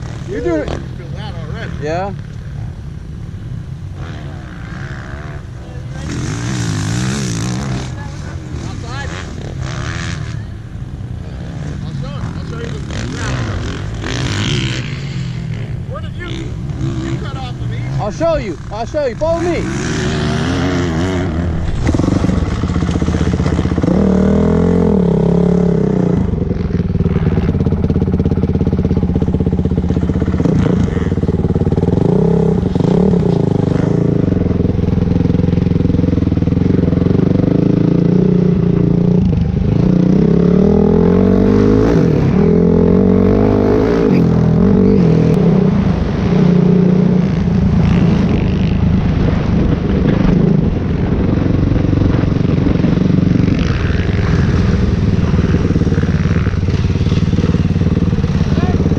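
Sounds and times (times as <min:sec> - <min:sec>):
dirt bike engine revving: 0:03.9 - 0:58.9.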